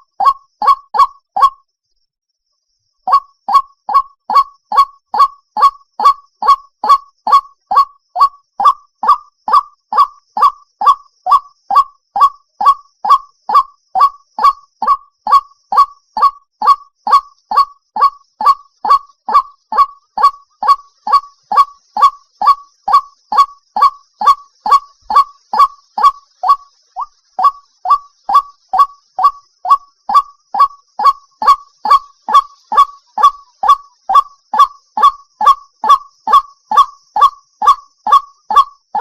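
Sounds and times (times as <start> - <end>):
waterhen calling: 0.0 - 1.5, 3.1 - 39.0.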